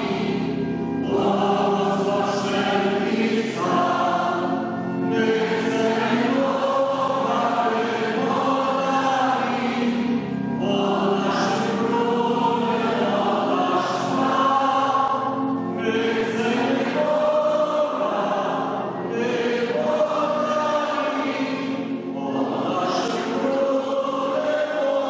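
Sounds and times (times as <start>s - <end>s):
people singing a hymn: 0.0s - 25.0s.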